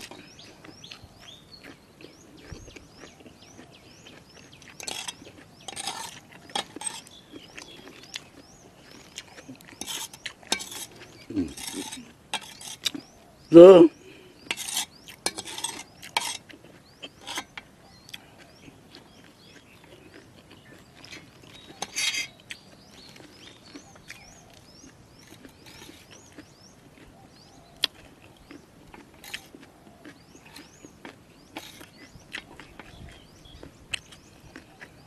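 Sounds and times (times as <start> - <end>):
crunchy chewing: 0.0 - 35.0
faint birds chirping: 0.0 - 35.0.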